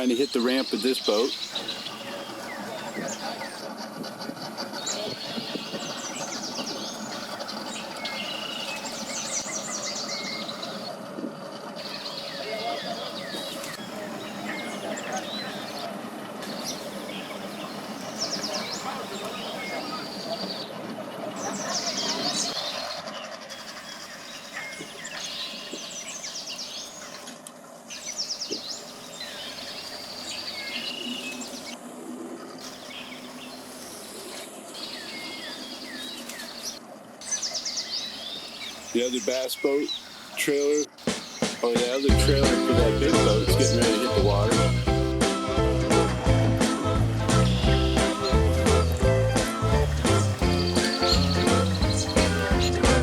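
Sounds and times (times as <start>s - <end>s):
small birds chirping: 0.0s - 31.8s, 32.5s - 45.3s, 46.9s - 53.0s
outdoor background noise: 0.0s - 53.0s
songbird singing: 0.0s - 53.0s.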